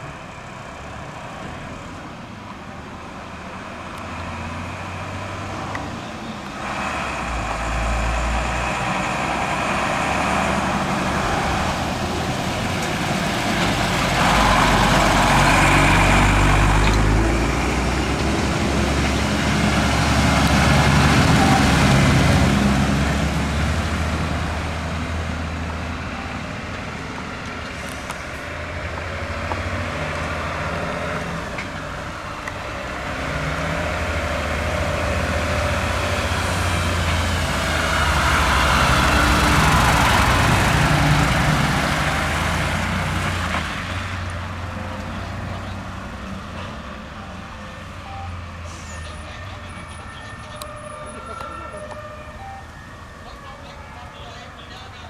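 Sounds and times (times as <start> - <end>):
heavy vehicle engine rumble: 0.0 - 55.0
road noise: 0.0 - 55.0.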